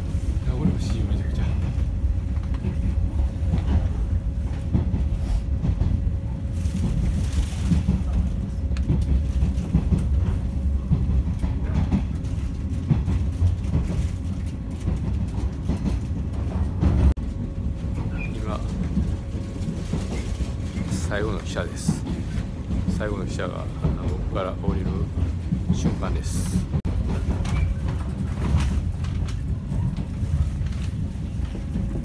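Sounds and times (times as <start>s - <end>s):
train wheels rumbling: 0.0s - 32.0s.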